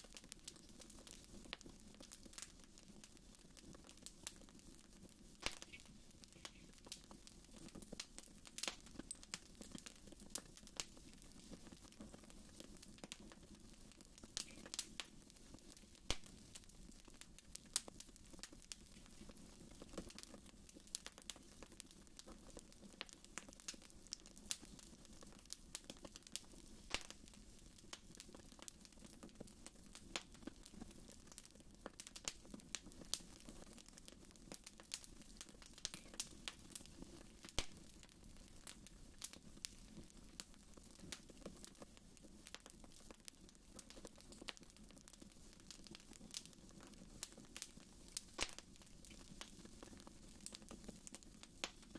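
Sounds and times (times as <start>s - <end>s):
fire crackling and popping: 0.0s - 51.9s.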